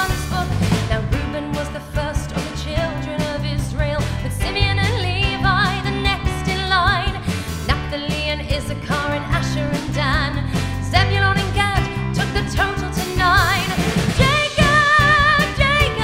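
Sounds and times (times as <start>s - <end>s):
bass: 0.0s - 16.0s
drums: 0.0s - 16.0s
woman singing: 0.0s - 16.0s.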